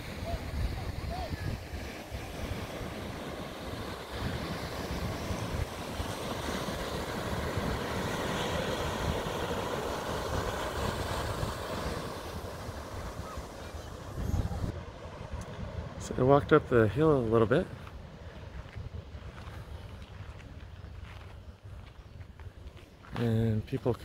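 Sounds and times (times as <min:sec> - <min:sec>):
ocean surf washing onto beach: 0:00.0 - 0:19.9
wind buffeting microphone: 0:00.0 - 0:22.8.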